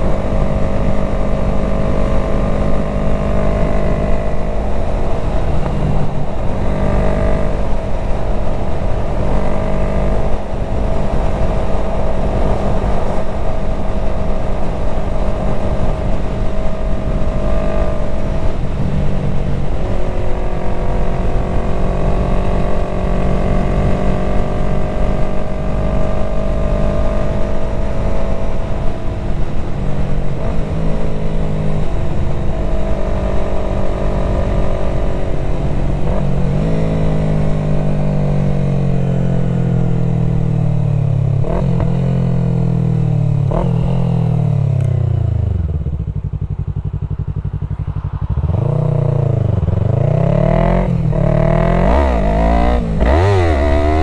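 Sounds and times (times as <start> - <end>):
motorcycle engine running: 0.0 - 54.0
wind rush on microphone: 0.0 - 54.0.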